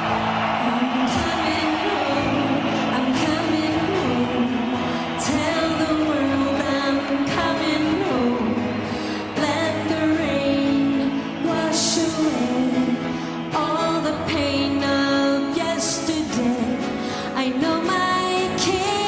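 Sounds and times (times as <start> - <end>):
band playing pop song: 0.0 - 19.0
woman singing into a microphone: 0.6 - 19.0.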